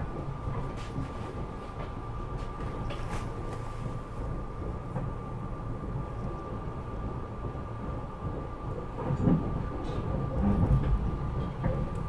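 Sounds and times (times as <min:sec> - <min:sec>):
train car low rumble: 0:00.0 - 0:12.0.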